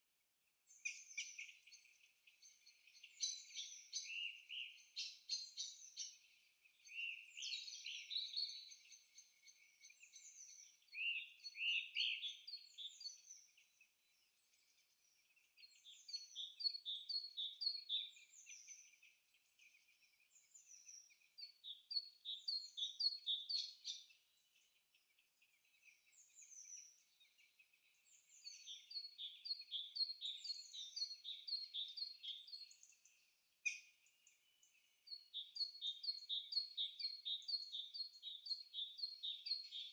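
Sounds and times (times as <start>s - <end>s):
songbird singing: 0.7s - 39.9s.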